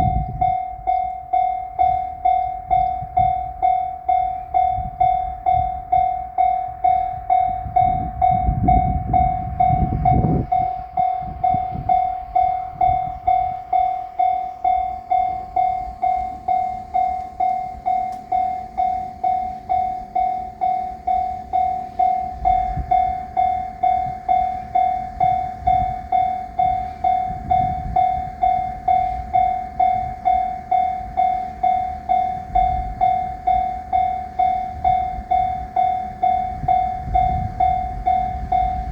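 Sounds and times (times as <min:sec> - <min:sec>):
level-crossing alarm dinging: 0:00.0 - 0:38.9
train rumbling on rails: 0:00.0 - 0:38.9.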